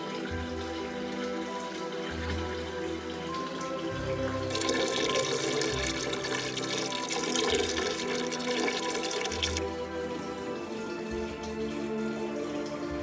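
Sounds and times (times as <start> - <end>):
background music: 0.0 - 13.0
water pouring into aquarium: 0.0 - 13.0.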